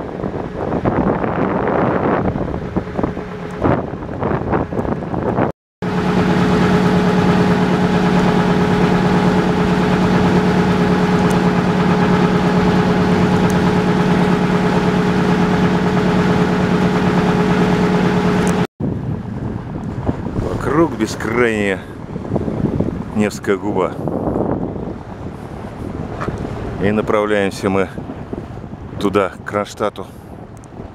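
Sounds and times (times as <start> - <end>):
boat engine humming: 0.0 - 30.9.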